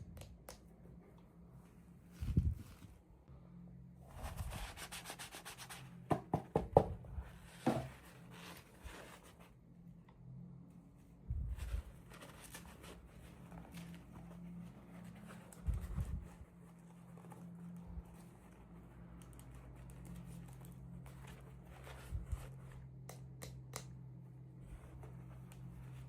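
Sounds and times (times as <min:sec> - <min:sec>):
low steady hum: 0:00.0 - 0:06.0, 0:06.8 - 0:26.0.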